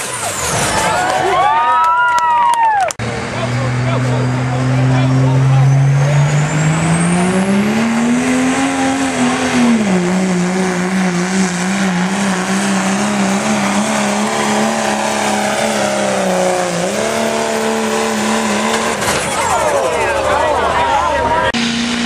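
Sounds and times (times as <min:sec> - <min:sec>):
diesel engine at full throttle: 0:00.0 - 0:01.6, 0:02.7 - 0:22.0.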